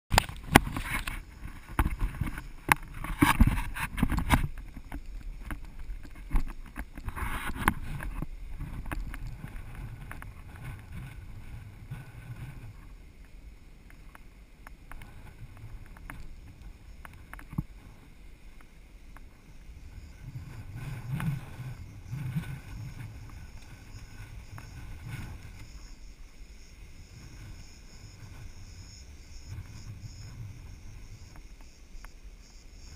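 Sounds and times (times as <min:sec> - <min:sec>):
strong wind on microphone: 0:00.1 - 0:13.2, 0:14.9 - 0:32.9.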